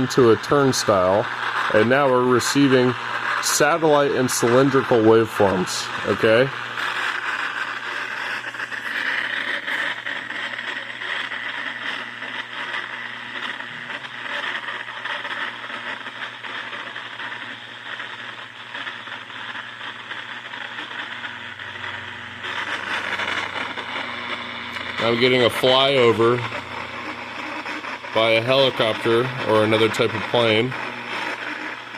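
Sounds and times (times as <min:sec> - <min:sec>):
radio static hiss and crackle: 0:00.0 - 0:31.9.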